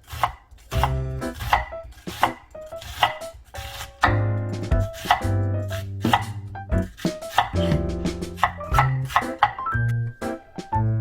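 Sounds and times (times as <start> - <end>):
knife slicing onions on board: 0.0 - 9.6
background music: 0.0 - 11.0.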